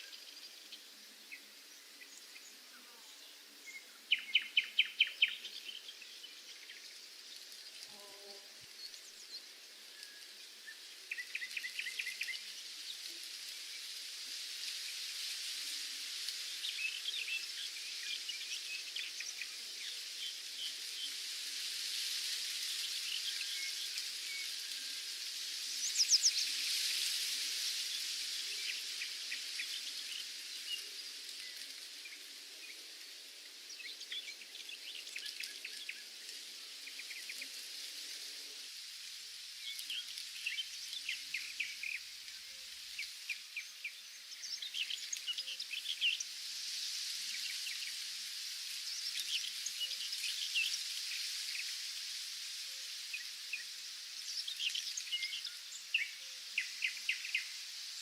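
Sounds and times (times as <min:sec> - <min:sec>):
small birds chirping: 0:00.0 - 0:58.0
steady high hiss: 0:00.0 - 0:58.0.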